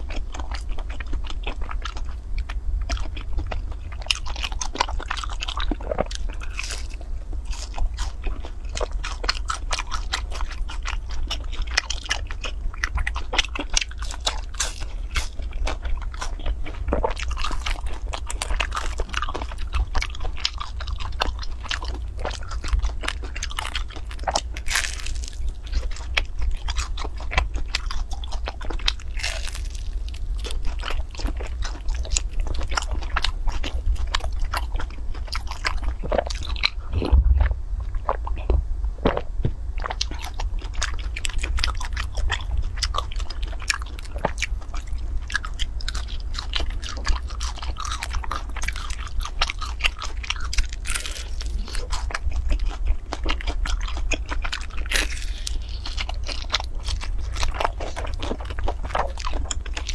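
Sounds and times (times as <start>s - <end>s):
low hum: 0.0s - 59.9s
woman chewing food: 0.0s - 59.9s.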